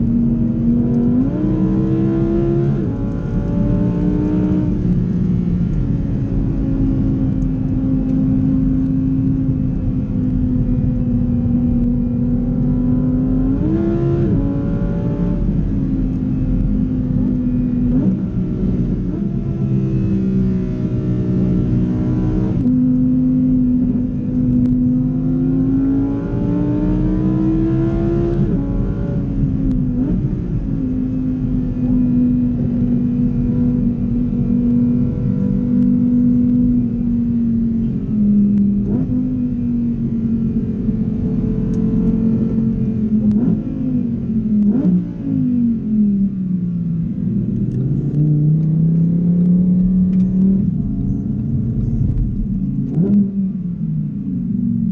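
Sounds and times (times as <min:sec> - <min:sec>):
car engine revving from inside cabin: 0:00.0 - 0:54.9.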